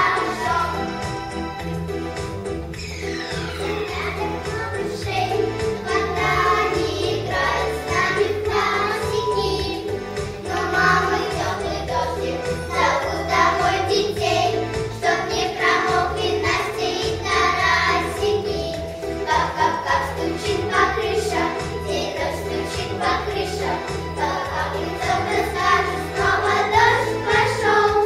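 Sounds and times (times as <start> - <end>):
children's choir singing: 0.0 - 1.8, 2.8 - 28.0
instrumental accompaniment: 0.0 - 28.0.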